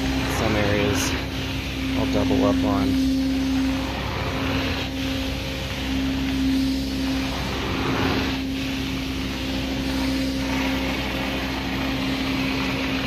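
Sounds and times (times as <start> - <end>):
extractor hum: 0.0 - 13.0
vacuum suction hiss: 0.0 - 13.0.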